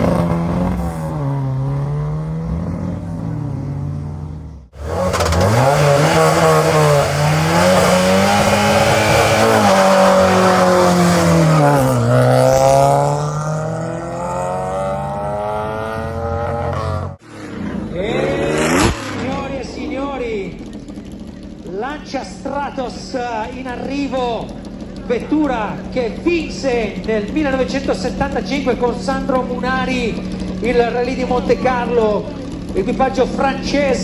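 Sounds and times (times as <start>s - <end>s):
rally car engine revving: 0.0s - 34.0s
rally car engine running: 0.0s - 34.0s.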